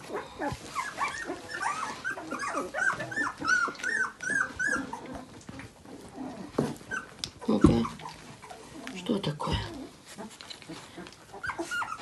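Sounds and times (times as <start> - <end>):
puppy whimpering and squeaking: 0.0 - 12.0.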